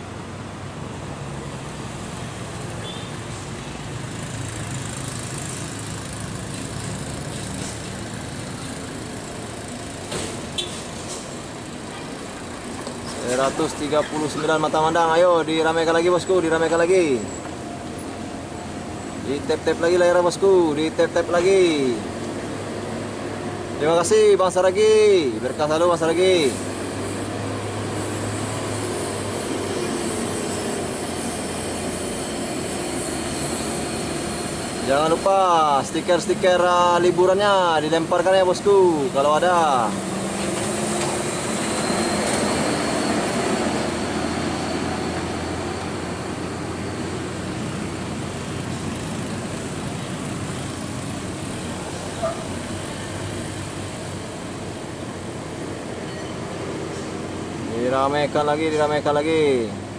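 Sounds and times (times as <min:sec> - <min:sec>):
road noise: 0:00.0 - 0:59.9
truck diesel engines rumbling: 0:00.0 - 0:59.9.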